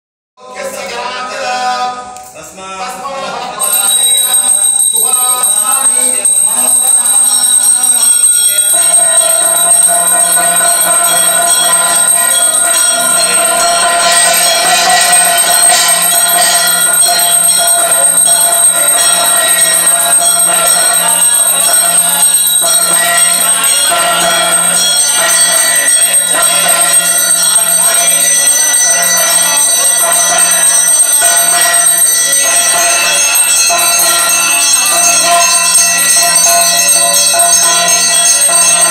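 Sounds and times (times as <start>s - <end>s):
temple bells ringing: 3.6s - 38.9s.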